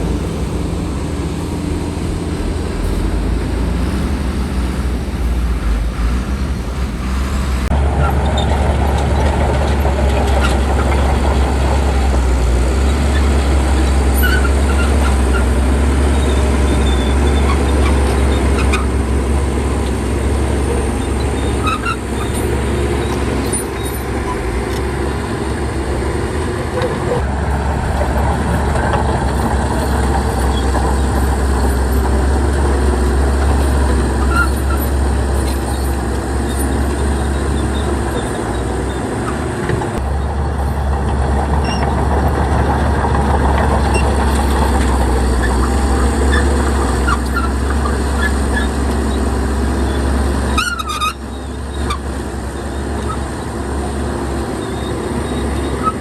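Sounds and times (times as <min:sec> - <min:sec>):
heavy diesel machinery rumbling: 0:00.0 - 0:56.0.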